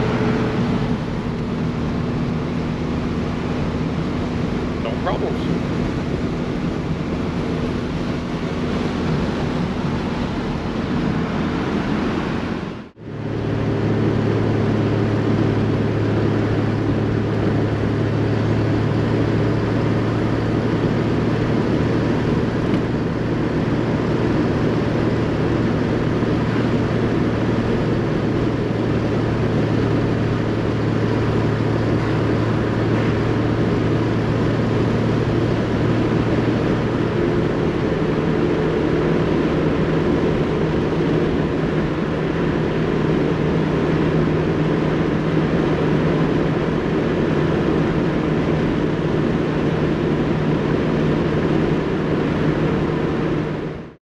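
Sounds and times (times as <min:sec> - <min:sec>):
car engine droning: 0:00.0 - 0:54.0
road noise: 0:00.0 - 0:54.0.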